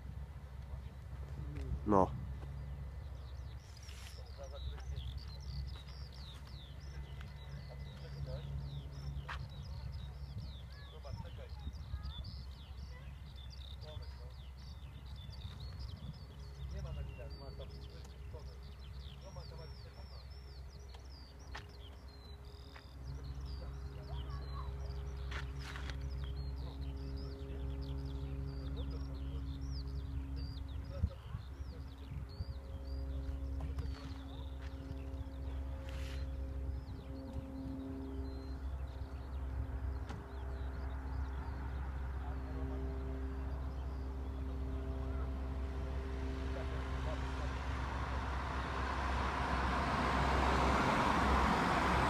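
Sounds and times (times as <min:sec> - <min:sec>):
low engine drone: 0:00.0 - 0:52.0
small birds chirping: 0:00.3 - 0:52.0.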